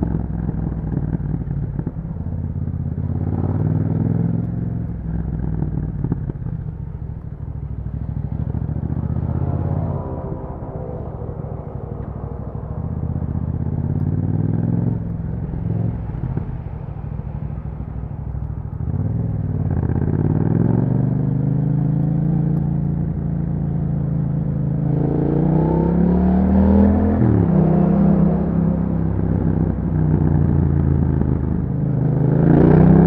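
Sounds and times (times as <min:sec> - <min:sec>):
motorcycle engine while riding: 0:00.0 - 0:33.0.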